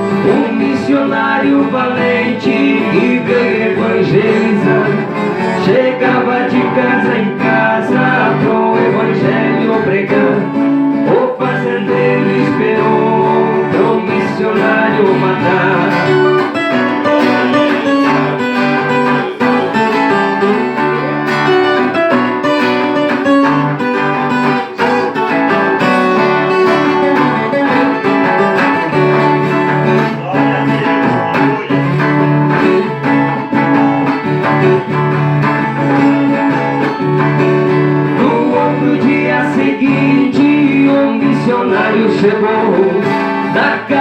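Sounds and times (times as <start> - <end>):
acoustic guitar and viola playing: 0.0 - 44.0.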